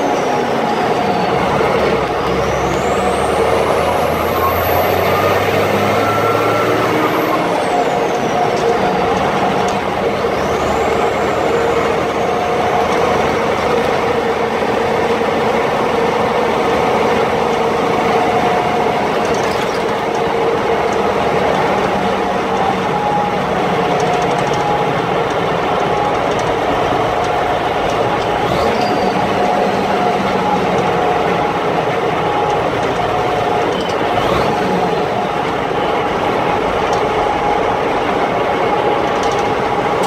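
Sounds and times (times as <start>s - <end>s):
constant whine: 0.0s - 40.0s
truck engine running loudly: 0.0s - 40.0s
tyre and road noise: 0.0s - 40.0s.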